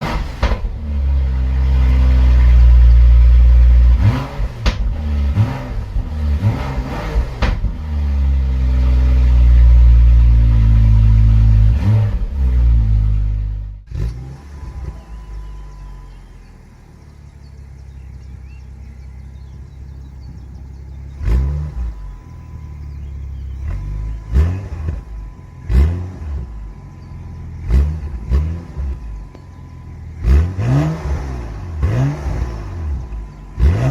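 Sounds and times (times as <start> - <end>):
car engine idling: 0.0 - 33.9
car engine revving: 0.0 - 33.9
engine throttle blips: 0.0 - 33.9.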